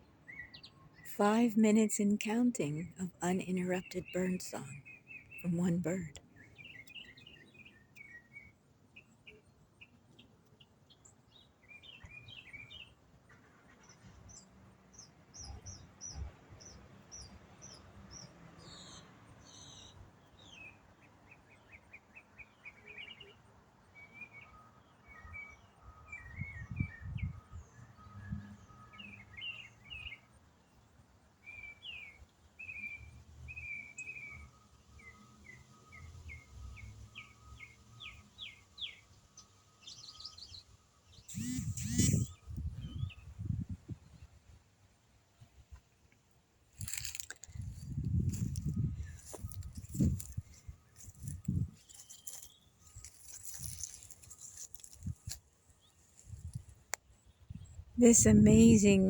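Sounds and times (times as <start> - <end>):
songbird singing chirps and trills: 0.0 - 44.7, 46.7 - 59.0.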